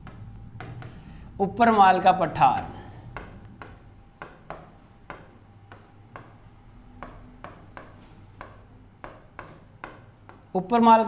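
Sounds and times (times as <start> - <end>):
pen tapping on writing board: 0.0 - 1.0, 2.6 - 10.5.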